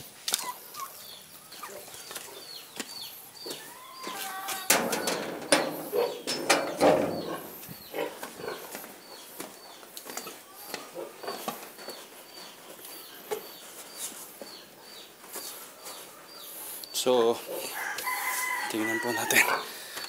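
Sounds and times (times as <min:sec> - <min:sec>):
farm animal calls: 0:00.3 - 0:12.1, 0:15.4 - 0:20.0.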